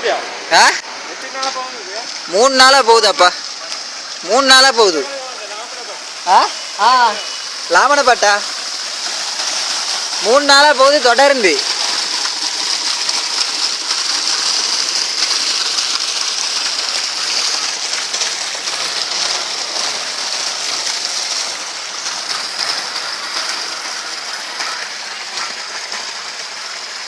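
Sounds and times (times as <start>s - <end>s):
water flowing: 0.0s - 27.0s.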